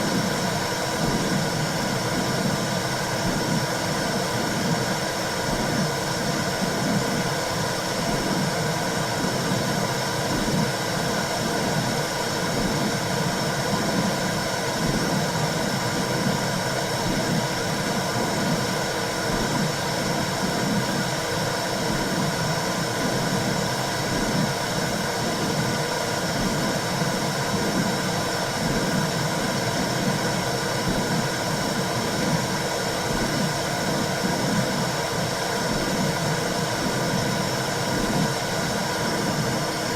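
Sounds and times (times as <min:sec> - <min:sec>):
faint constant hum: 0:00.0 - 0:39.9.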